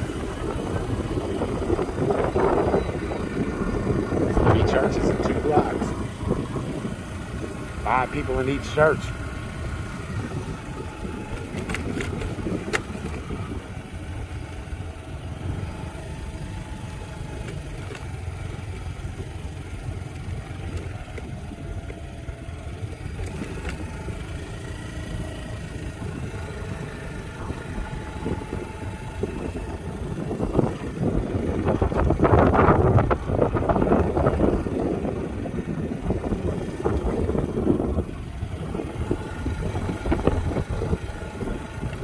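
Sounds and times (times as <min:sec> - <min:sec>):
motorbike engine running: 0:00.0 - 0:42.0
wind and road rumble: 0:00.0 - 0:42.0.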